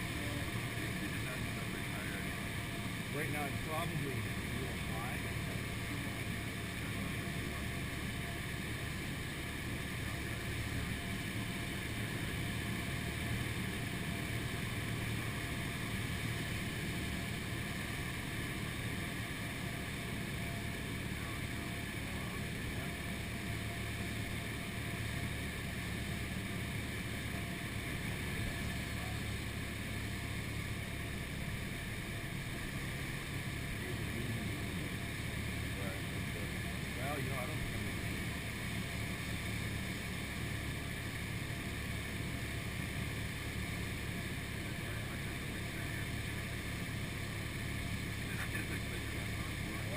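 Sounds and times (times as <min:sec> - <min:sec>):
aircraft engine drone: 0:00.0 - 0:49.9.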